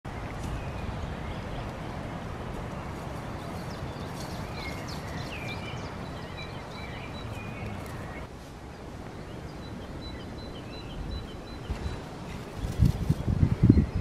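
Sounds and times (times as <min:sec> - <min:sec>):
songbirds chirping and whistling: 0:00.1 - 0:14.0.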